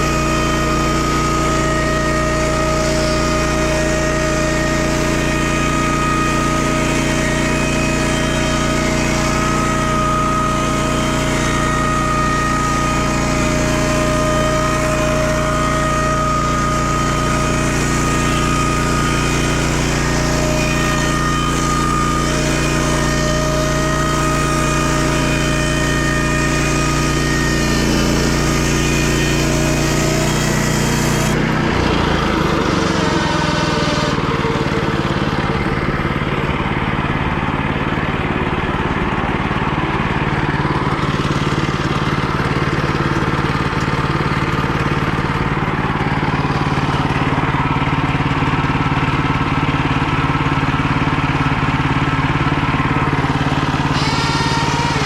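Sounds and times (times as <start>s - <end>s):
steady whine: 0.0s - 49.2s, 51.1s - 55.0s
small engine running: 0.0s - 55.0s.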